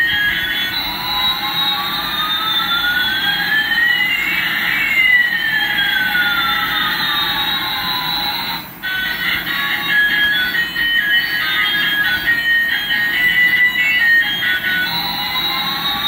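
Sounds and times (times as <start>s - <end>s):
short electronic tones: 0.0s - 16.0s.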